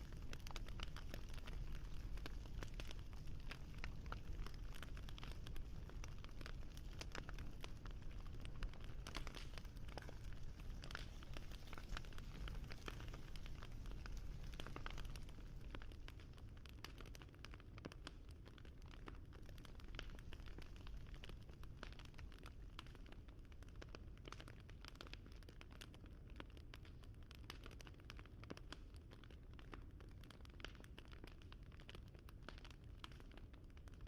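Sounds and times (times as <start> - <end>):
crackling fire: 0.0 - 34.0.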